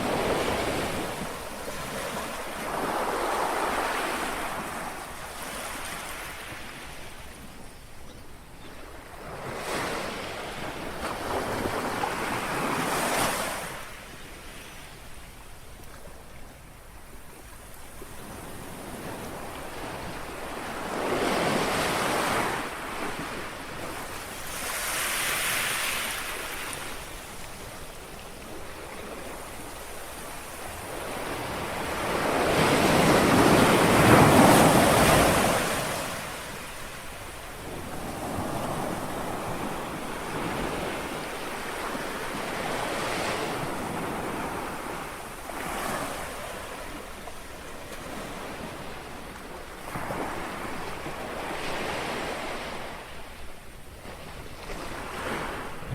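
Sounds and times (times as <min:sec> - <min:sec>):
small waves washing on shore: 0:00.0 - 0:07.5, 0:17.1 - 0:55.9.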